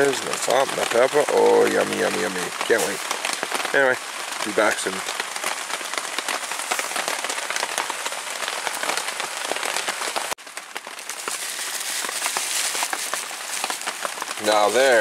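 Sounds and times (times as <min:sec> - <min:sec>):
rain on a tarp: 0:00.0 - 0:15.0.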